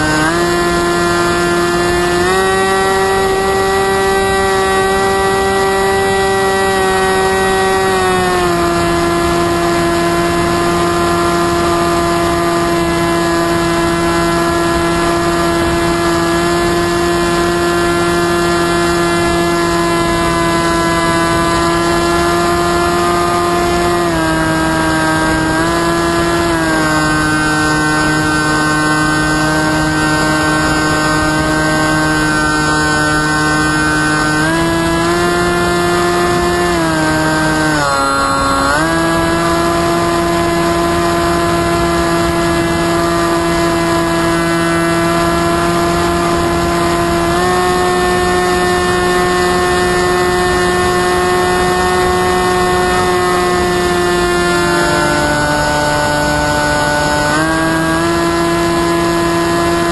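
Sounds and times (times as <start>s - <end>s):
motor and propeller buzzing drone: 0.0s - 59.9s.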